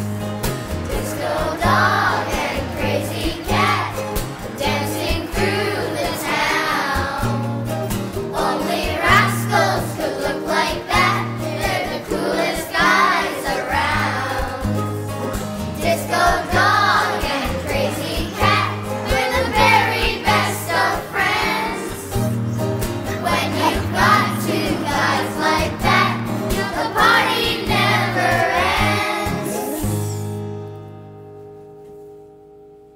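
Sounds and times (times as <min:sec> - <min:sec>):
held bass notes: 0:00.0 - 0:32.5
song with singing: 0:00.9 - 0:14.9, 0:15.8 - 0:22.3, 0:23.0 - 0:30.4.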